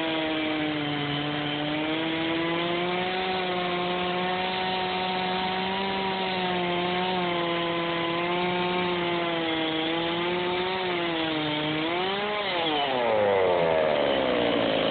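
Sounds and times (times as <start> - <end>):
chainsaw cutting wood: 0.0 - 14.9.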